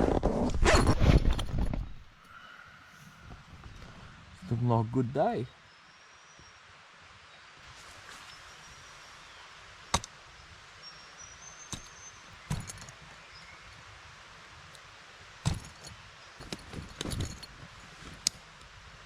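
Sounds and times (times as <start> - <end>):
steady quiet hiss: 1.4 - 19.0.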